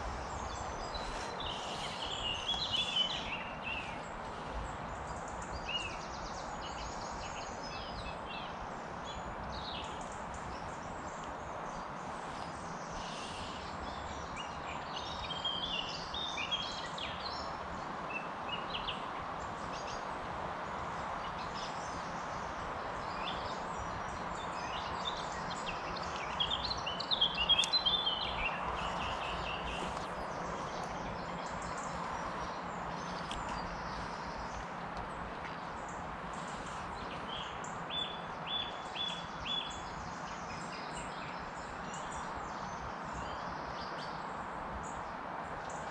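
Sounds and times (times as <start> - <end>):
songbirds chirping and singing: 0.0 - 20.1, 21.1 - 45.9
outdoor background noise: 0.0 - 45.9.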